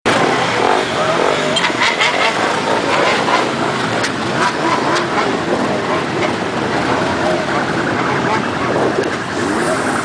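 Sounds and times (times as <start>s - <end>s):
motorcycle engines running: 0.1s - 10.0s.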